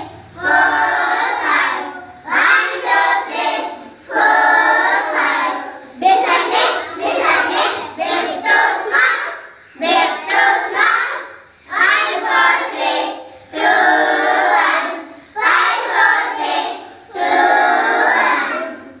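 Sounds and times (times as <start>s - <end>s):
children singing in unison: 0.0s - 19.0s.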